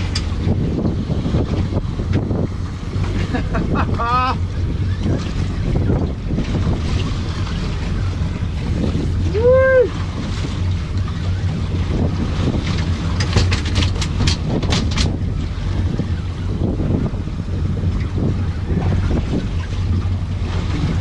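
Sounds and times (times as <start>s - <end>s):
sea washing: 0.0s - 21.0s
wind buffeting microphone: 0.0s - 21.0s.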